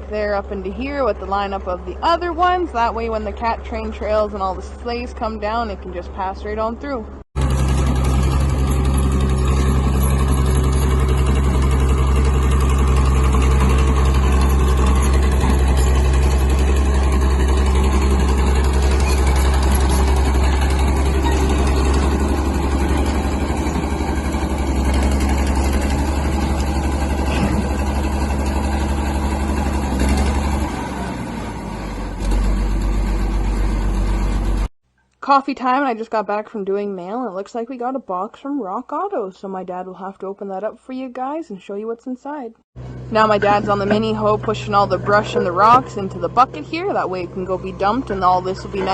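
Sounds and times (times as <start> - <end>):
heavy vehicle engine running: 0.0 - 34.7, 42.8 - 48.9.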